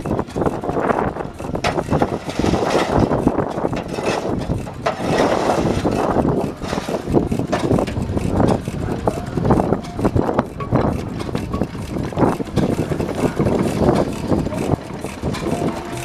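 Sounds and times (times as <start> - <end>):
stationary engines running: 0.0 - 16.0
clatter of knocks: 1.4 - 16.0.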